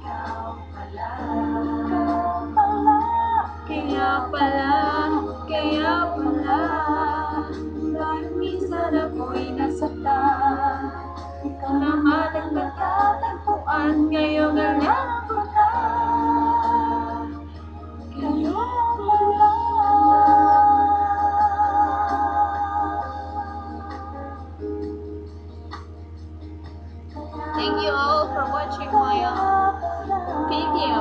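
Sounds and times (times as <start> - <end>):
woman singing slow love song: 0.0 - 25.0, 27.2 - 31.0.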